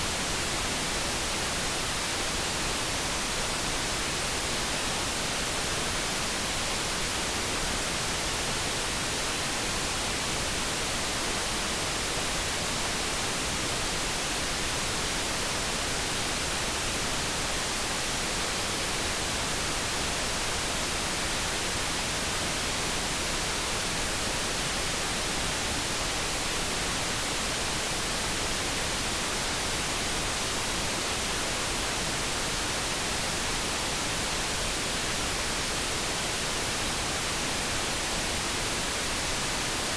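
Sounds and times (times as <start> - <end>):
steady brown noise hiss: 0.0 - 39.9.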